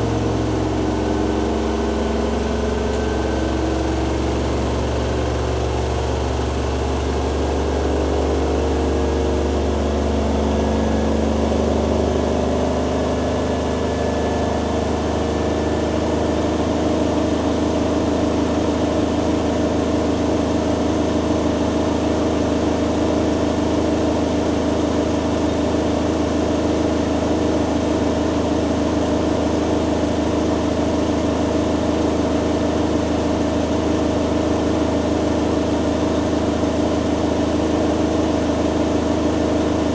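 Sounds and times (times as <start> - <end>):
washing machine spin cycle hum: 0.0 - 39.9.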